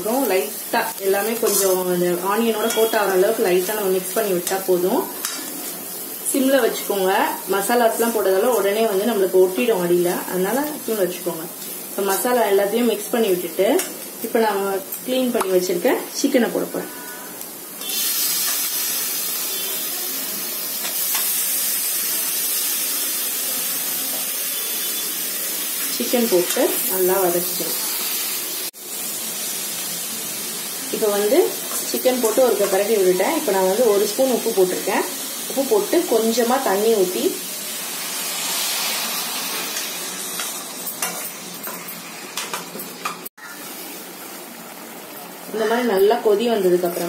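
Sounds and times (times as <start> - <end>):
chicken sizzling in hot oil: 0.0 - 47.0.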